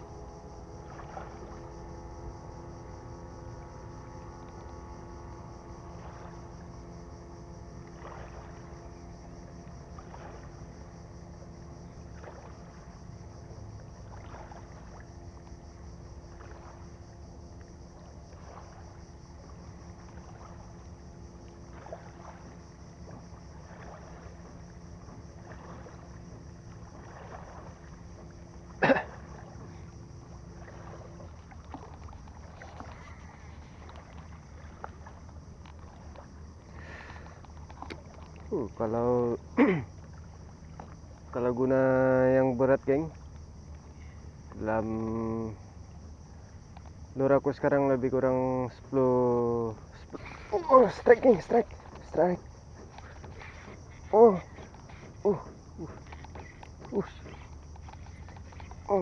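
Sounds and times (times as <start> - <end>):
small waves lapping: 0.0 - 59.0
steady low hum: 0.0 - 59.0.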